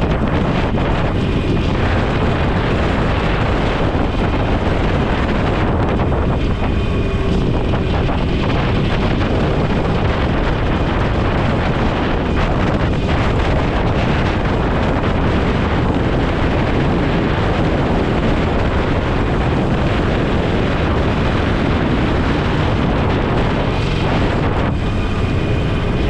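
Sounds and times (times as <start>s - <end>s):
motorcycle engine: 0.0s - 26.0s
road noise: 0.0s - 26.0s
wind rush on microphone: 0.0s - 26.0s.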